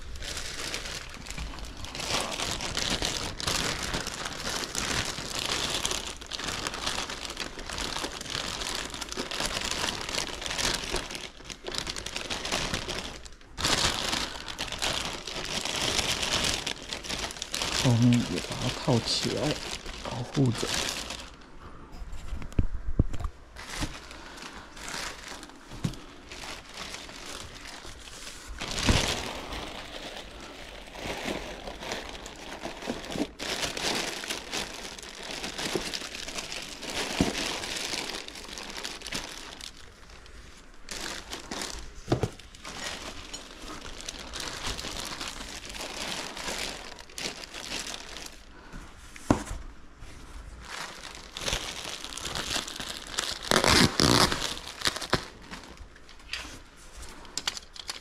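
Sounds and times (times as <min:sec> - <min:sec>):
plastic wrap crinkling: 0:00.0 - 0:21.6, 0:22.2 - 0:58.0.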